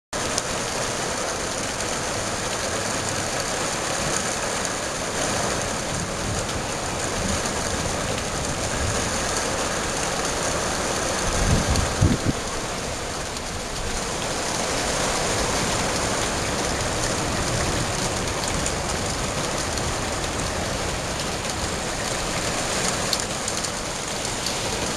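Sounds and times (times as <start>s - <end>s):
heavy rain pouring: 0.2s - 24.9s.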